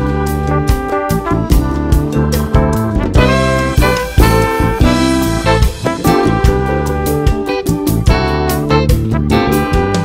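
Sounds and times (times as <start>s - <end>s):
upbeat jazz with brass: 0.0s - 10.0s.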